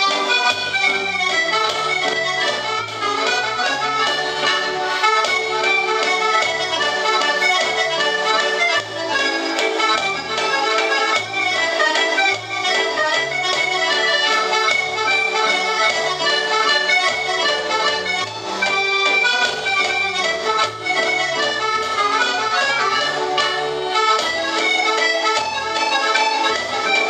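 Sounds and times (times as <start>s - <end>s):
accordion bass notes: 0.0s - 27.0s
accordion melody: 0.0s - 27.0s.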